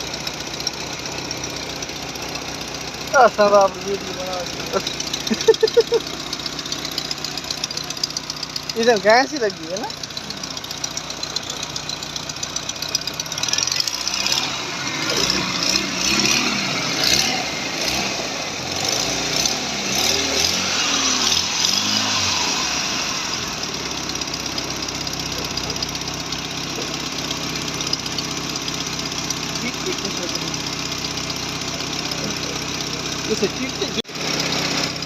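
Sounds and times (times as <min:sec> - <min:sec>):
thresher running: 0:00.0 - 0:35.0
tractor diesel engine running: 0:00.0 - 0:35.0.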